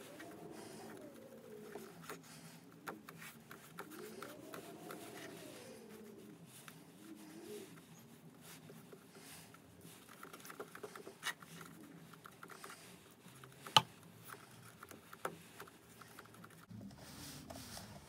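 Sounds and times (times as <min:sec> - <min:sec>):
paintbrush strokes on canvas: 0:00.0 - 0:18.0.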